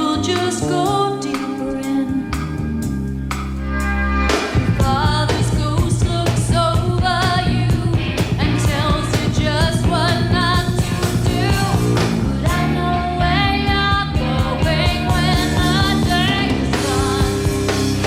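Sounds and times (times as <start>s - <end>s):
woman singing with vibrato: 0.0s - 2.4s, 4.7s - 17.5s
drum kit: 0.0s - 18.0s
electric bass: 0.0s - 18.0s.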